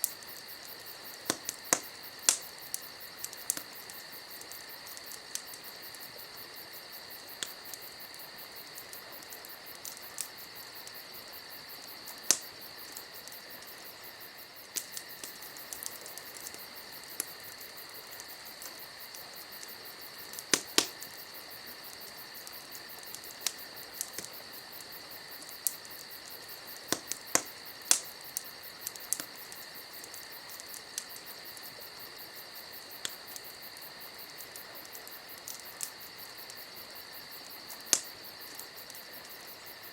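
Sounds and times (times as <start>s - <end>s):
campfire crackling and popping: 0.0s - 39.9s
insects chirping: 0.0s - 39.9s.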